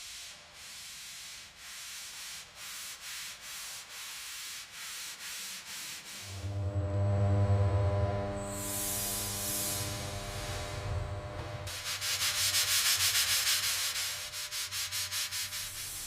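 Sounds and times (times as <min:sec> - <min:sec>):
rasping sanding strokes: 0:00.6 - 0:06.6, 0:08.5 - 0:16.0.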